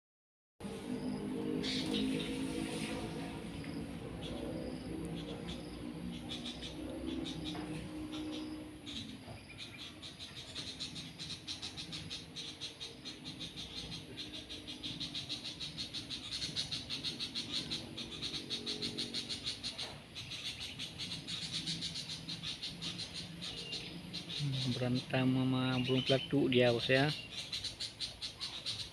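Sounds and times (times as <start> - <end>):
low hum: 0.6 - 25.3
birds chattering: 0.6 - 28.9.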